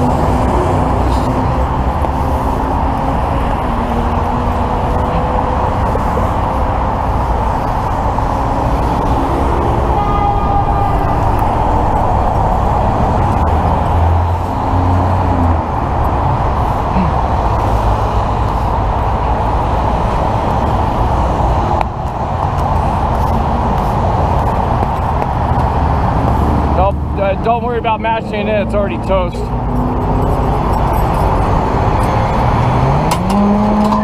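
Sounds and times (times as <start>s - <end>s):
freeway traffic passing: 0.0s - 34.0s.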